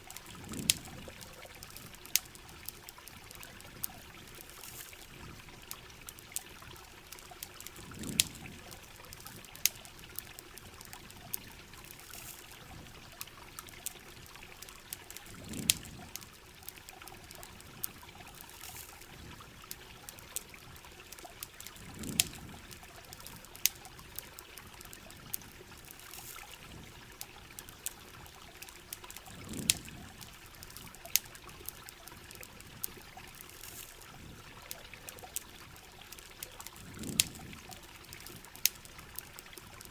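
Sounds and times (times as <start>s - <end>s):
campfire crackling and popping: 0.0s - 39.9s
trickling water: 0.0s - 39.9s.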